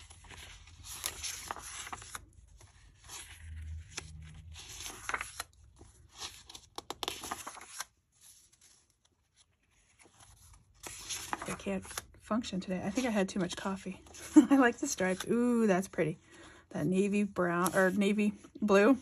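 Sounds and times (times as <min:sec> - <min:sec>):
paper sheets rustling: 0:00.0 - 0:16.0, 0:16.9 - 0:19.0.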